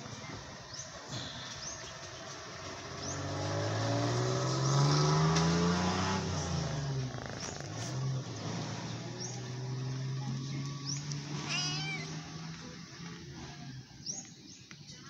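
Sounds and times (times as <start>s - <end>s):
vehicle engine accelerating: 0.0s - 14.6s.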